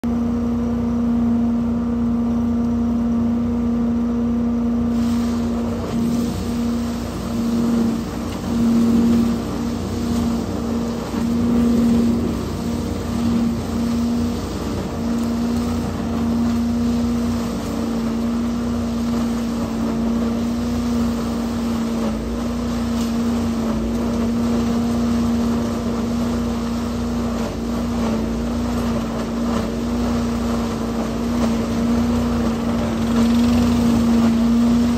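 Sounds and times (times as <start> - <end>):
leaf vacuum engine and fan hum: 0.0 - 34.9
leaves rushing up a hose: 4.8 - 34.9.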